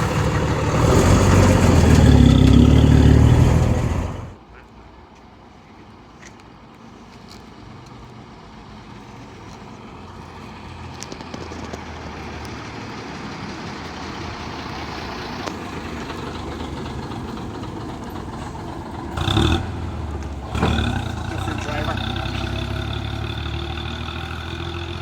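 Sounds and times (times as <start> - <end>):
bus engine running: 0.0 - 4.4, 7.6 - 25.0.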